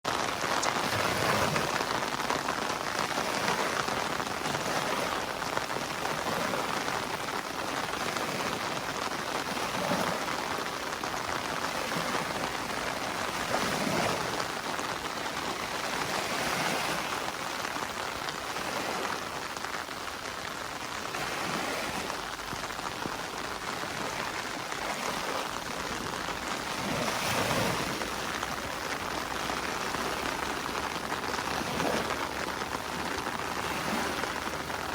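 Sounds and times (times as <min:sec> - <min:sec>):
heavy rain hissing: 0:00.1 - 0:34.9.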